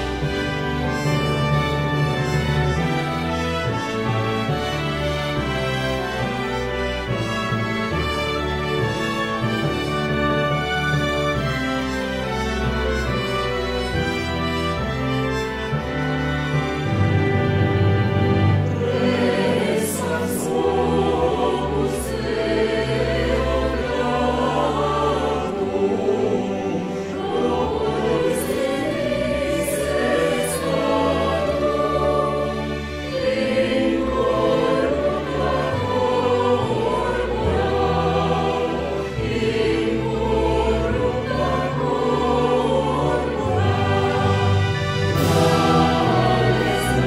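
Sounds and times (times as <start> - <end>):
choir singing a hymn: 0.0 - 47.0
orchestral accompaniment: 0.0 - 47.0.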